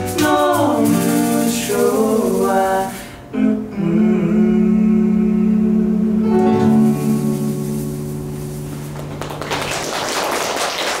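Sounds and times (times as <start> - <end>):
acoustic guitar chord ringing: 0.0 - 9.3.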